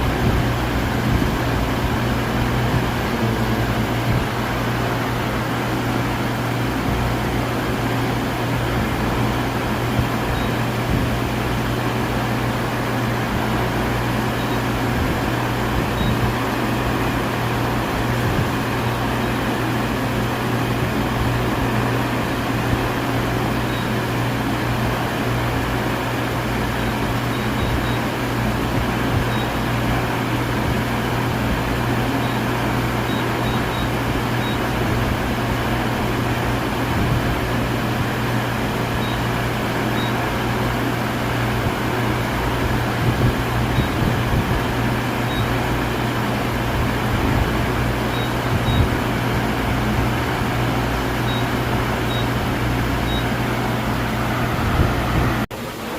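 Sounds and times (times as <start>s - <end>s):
milling machine humming: 0.0s - 55.9s.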